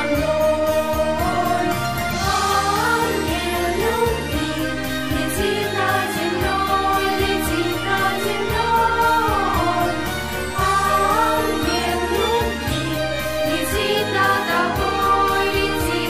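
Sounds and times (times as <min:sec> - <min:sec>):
girls' choir singing: 0:00.0 - 0:16.0
instrumental accompaniment with bass: 0:00.0 - 0:16.0.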